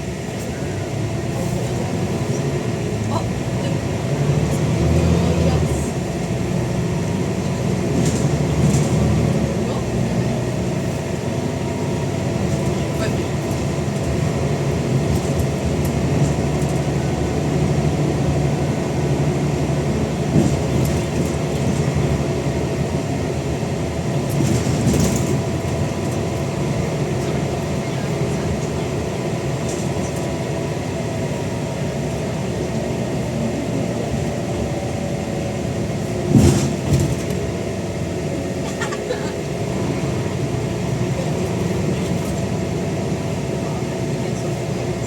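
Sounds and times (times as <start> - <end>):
bus engine droning: 0.0 - 45.0.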